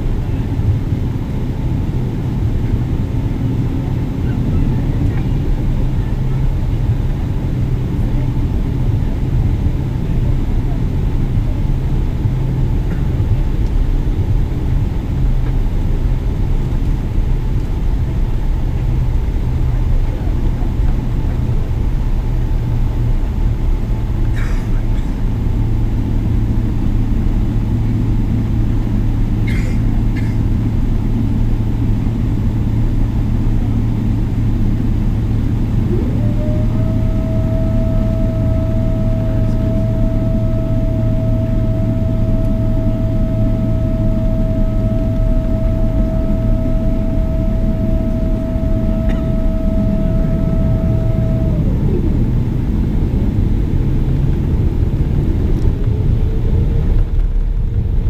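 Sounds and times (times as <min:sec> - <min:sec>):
jet engine rumble and airflow: 0:00.0 - 0:58.0
low hum: 0:00.0 - 0:58.0
mechanical whine: 0:00.0 - 0:58.0.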